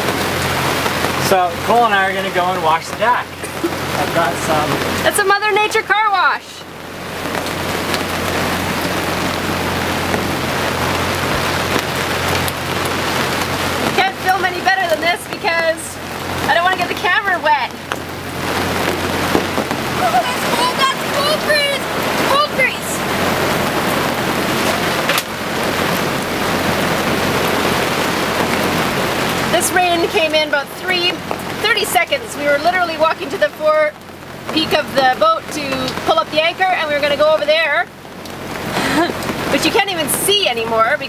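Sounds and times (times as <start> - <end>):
heavy rain pouring: 0.0 - 41.0
raindrops ticking on surfaces: 0.0 - 41.0.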